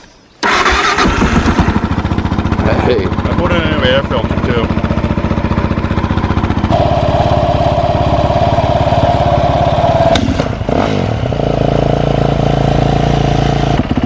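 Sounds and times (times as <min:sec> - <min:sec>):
dirt bike engine revving: 0:00.4 - 0:14.0.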